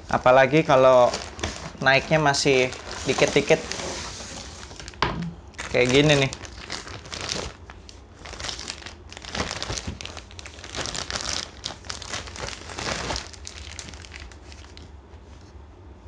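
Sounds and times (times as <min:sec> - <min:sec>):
plastic bag crinkling: 0:00.6 - 0:14.9.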